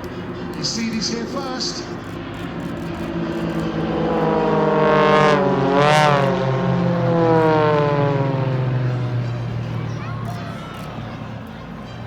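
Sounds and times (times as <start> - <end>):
propeller planes flying past: 0.0 - 12.0.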